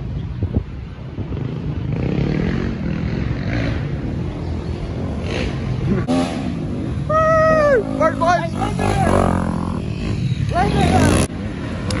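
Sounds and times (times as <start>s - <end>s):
dirt bike engines revving: 1.2s - 12.0s.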